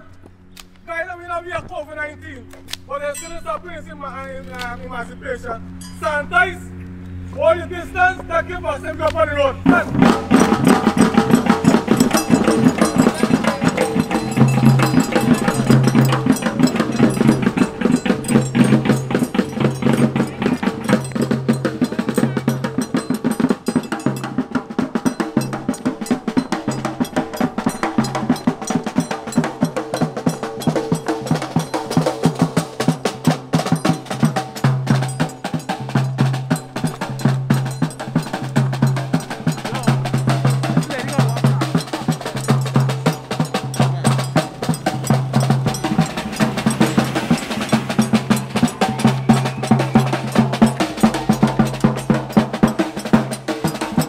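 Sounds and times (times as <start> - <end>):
rapid snare drum strokes: 9.6 - 54.0
steady bass drum beat: 9.6 - 54.0.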